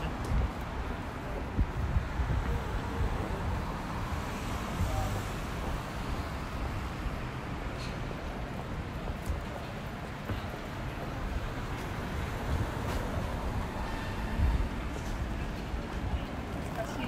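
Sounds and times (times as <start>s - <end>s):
faint voices of passers-by: 0.0s - 17.0s
traffic hum: 0.0s - 17.0s.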